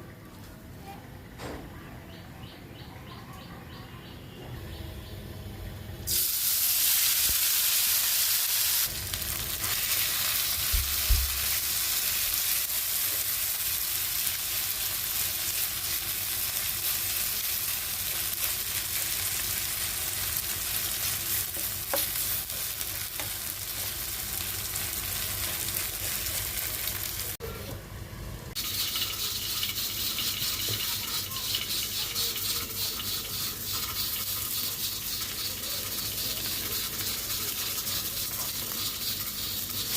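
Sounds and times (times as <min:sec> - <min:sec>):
oil sizzling in a pan: 0:06.1 - 0:27.4, 0:28.6 - 0:39.9.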